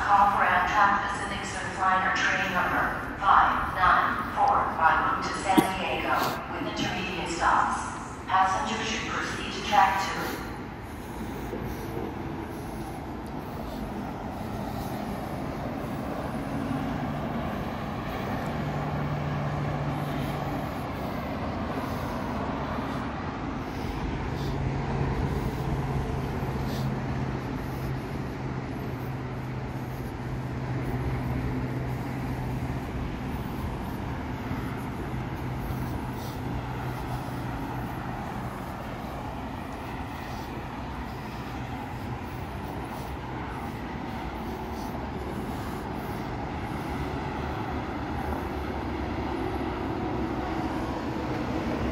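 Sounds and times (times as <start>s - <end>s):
low engine hum: 0.0s - 51.9s
traffic rumble: 0.0s - 51.9s.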